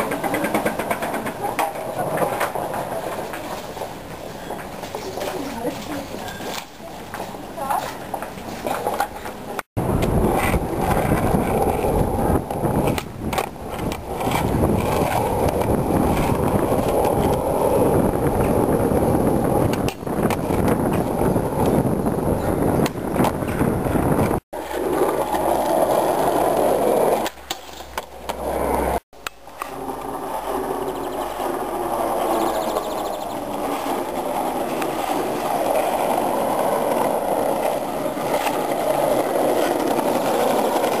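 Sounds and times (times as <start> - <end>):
skateboard clacks: 0.0 - 41.0
skateboard wheels rolling on asphalt: 0.0 - 41.0.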